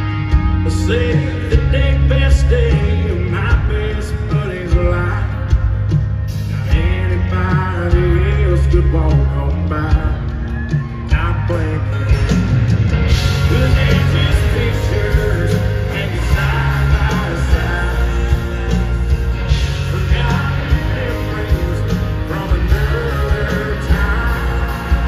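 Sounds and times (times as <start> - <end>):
live country band playing: 0.0 - 25.0
person singing lead vocal: 0.0 - 25.0.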